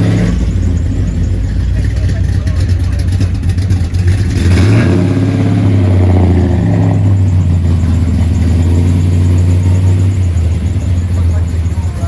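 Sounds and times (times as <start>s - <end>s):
car engine running: 0.0s - 12.0s
higher engine note: 0.0s - 12.0s.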